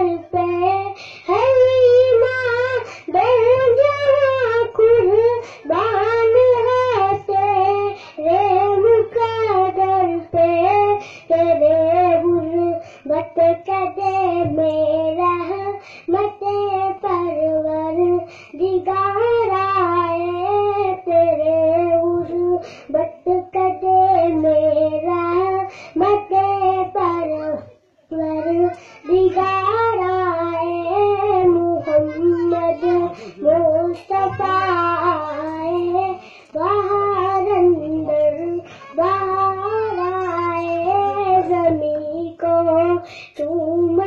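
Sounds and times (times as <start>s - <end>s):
boy singing into a microphone: 0.0s - 44.0s.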